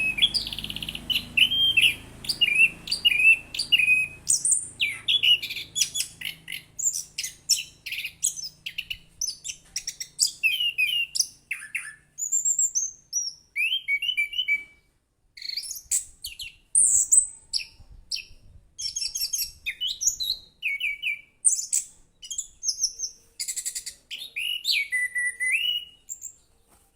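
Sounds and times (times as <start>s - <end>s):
thrush singing chirps and trills: 0.0s - 14.8s, 15.4s - 26.4s.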